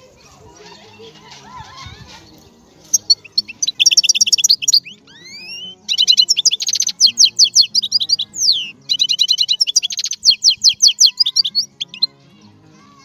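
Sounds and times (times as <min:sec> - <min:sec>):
quiet background music: 0:00.0 - 0:13.0
songbird singing: 0:00.0 - 0:13.0.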